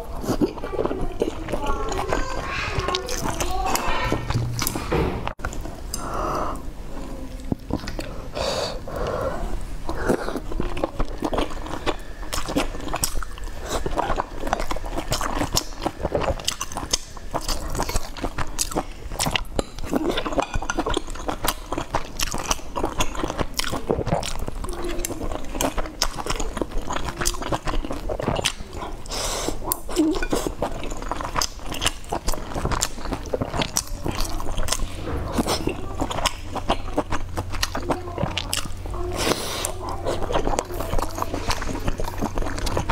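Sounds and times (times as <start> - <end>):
woman chewing: 0.0 - 42.9.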